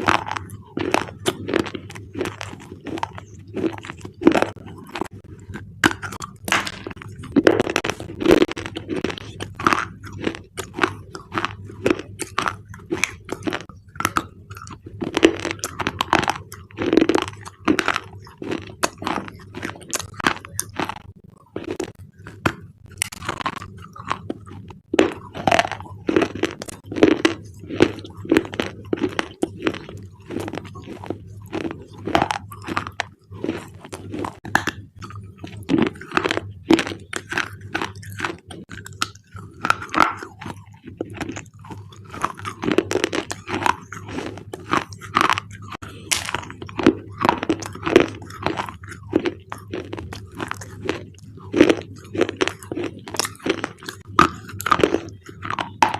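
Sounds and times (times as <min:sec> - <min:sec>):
slate bars crunching: 0:00.0 - 0:55.9.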